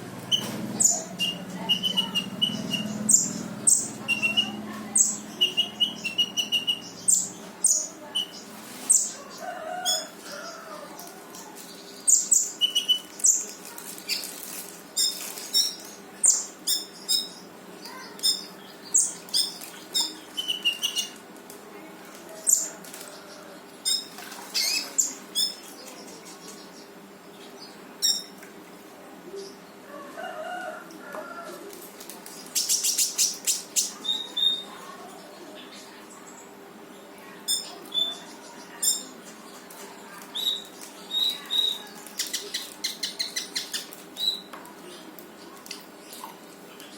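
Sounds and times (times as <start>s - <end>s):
songbird singing: 0.2s - 14.3s, 15.0s - 21.2s, 22.4s - 28.4s, 32.3s - 39.6s, 40.3s - 46.9s.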